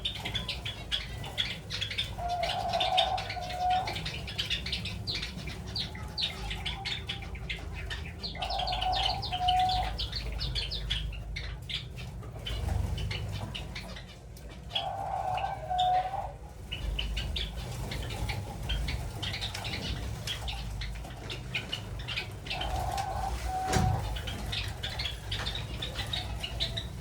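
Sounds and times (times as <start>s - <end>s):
dove cooing: 0.0s - 27.0s
sparrows chirping: 0.0s - 27.0s.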